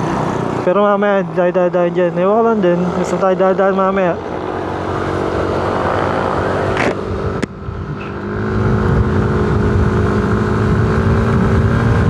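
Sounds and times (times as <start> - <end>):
wind and road noise: 0.0 - 12.0
scooter engine running: 1.6 - 12.0.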